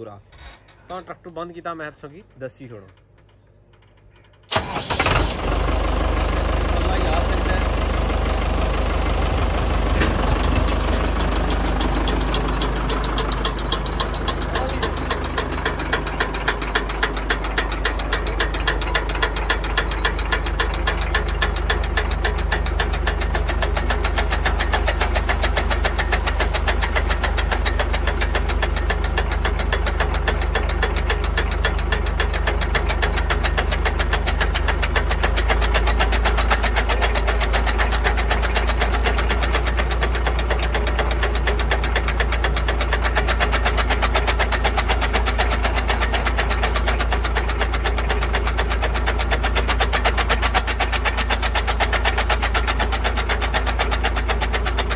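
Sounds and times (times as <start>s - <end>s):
tractor diesel engine running: 1.0s - 54.9s.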